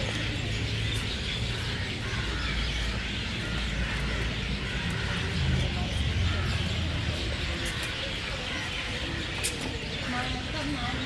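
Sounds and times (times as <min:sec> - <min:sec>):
parrots chirping and calling: 0:00.0 - 0:11.0.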